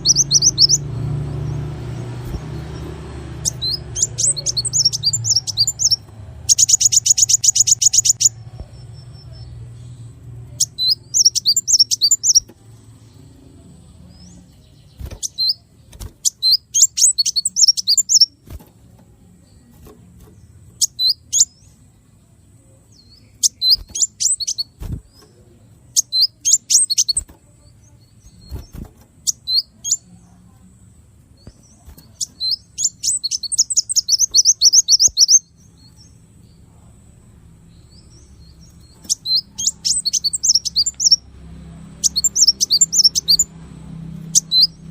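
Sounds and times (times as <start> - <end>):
songbird singing rapid high notes: 0.0 - 18.6, 19.5 - 22.1, 22.9 - 30.4, 31.4 - 44.9.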